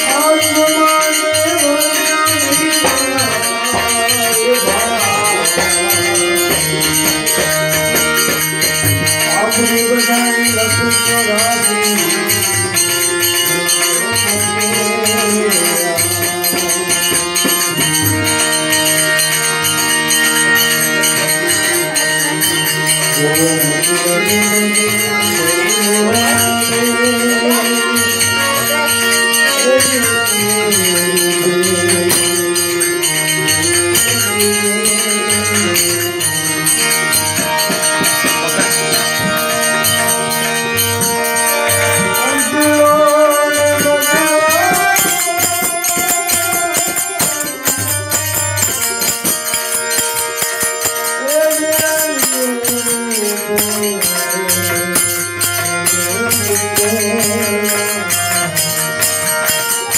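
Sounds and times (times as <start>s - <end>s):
man singing: 0.0s - 18.4s, 20.7s - 50.0s, 51.0s - 59.0s
hand cymbals jingling: 0.0s - 59.9s
harmonium: 0.0s - 59.9s.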